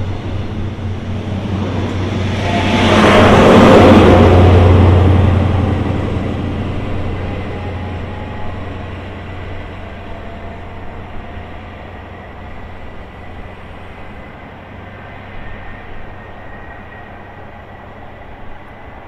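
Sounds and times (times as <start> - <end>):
train diesel engine drone: 0.0 - 19.0.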